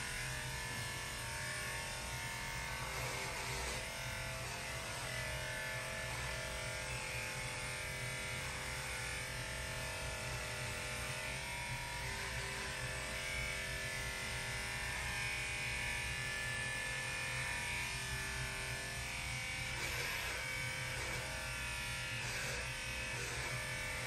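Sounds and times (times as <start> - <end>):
electric clipper buzzing: 0.0 - 24.0.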